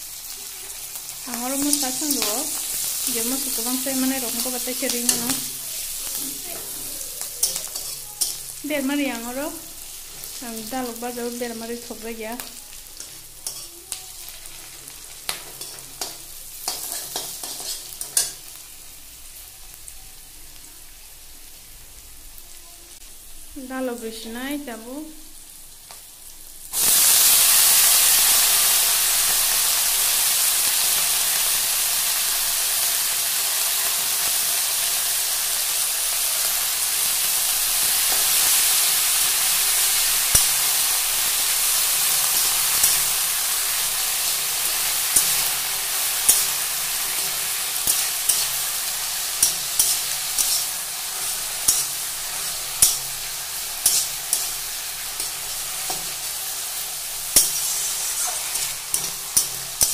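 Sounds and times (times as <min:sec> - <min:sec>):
greens sizzling in hot oil: 0:00.0 - 0:59.9.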